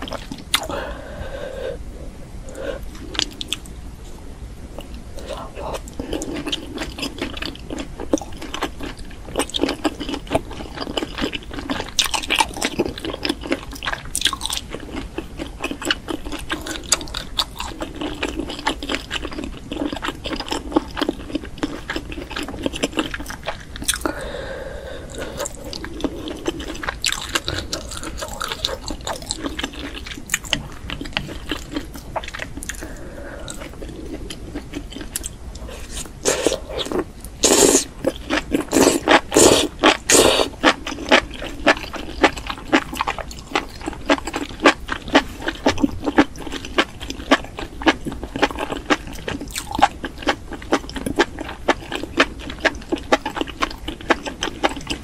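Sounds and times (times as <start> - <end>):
person chewing crunchy food: 0.0 - 0.9, 2.5 - 3.7, 4.8 - 55.0.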